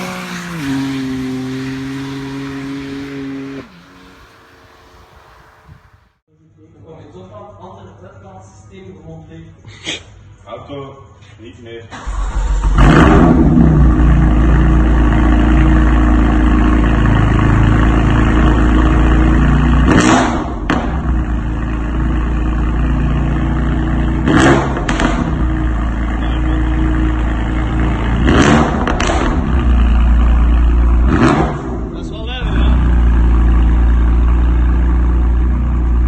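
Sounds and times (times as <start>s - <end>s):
car engine droning: 0.0s - 6.2s, 12.1s - 36.0s.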